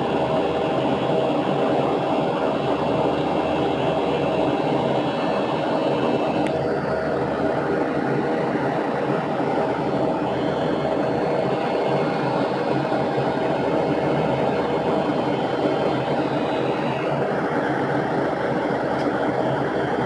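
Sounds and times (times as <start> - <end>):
faint steady hum: 0.0 - 20.0
jet airliner cabin drone: 0.0 - 20.0.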